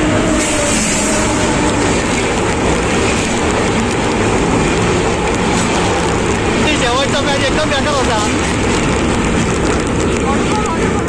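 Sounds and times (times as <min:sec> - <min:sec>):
train passing on a bridge: 0:00.0 - 0:11.0.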